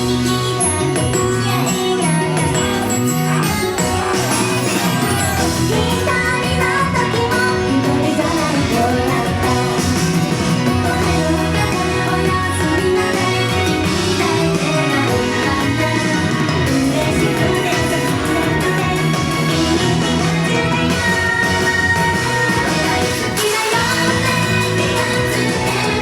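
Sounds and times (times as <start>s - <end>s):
pop song over sound system: 0.0s - 26.0s.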